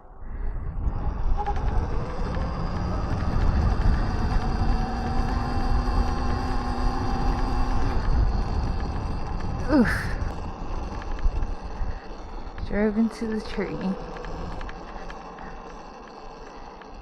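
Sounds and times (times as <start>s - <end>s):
wind on microphone: 0.0s - 15.0s
electric motor whine: 0.4s - 17.0s.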